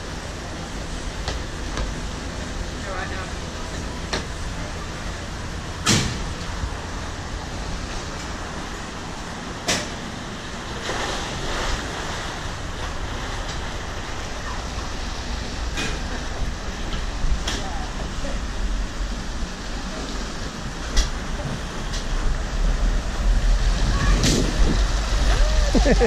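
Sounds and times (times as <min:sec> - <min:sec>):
coaster cart rolling on steel track: 0:00.0 - 0:26.0.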